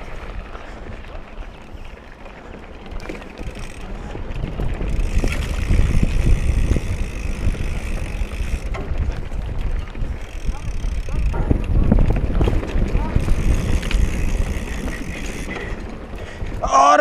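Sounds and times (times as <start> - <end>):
bike rattling and knocking: 0.0 - 16.9
bike tyres on dirt: 0.0 - 17.0
wind on microphone: 2.9 - 17.0.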